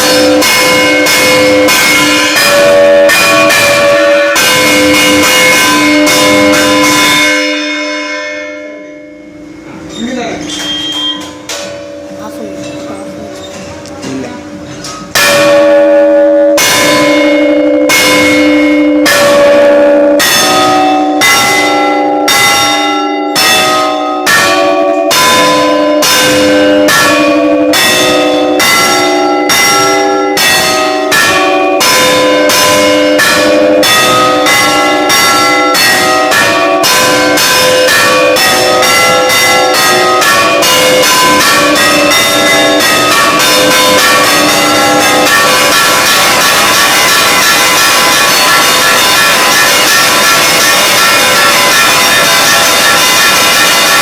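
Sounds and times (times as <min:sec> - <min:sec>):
church bell ringing: 0:00.0 - 0:54.0.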